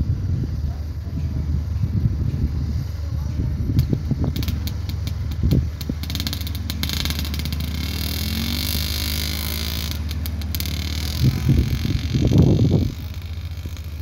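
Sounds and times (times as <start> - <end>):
distant propeller plane engine drone: 0.0 - 14.0.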